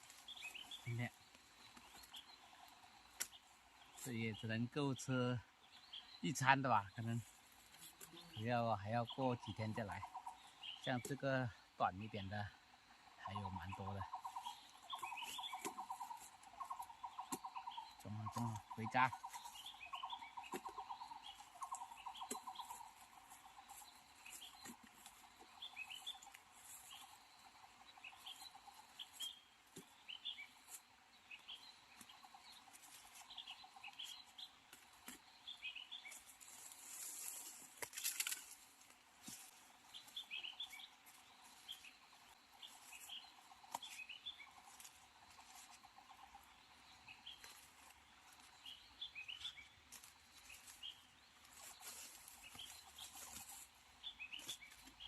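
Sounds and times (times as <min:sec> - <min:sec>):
light steps in undergrowth: 0:00.0 - 0:04.2, 0:07.1 - 0:08.4, 0:13.4 - 0:55.0
rustling in undergrowth: 0:00.0 - 0:04.2, 0:07.0 - 0:08.4, 0:13.3 - 0:55.0.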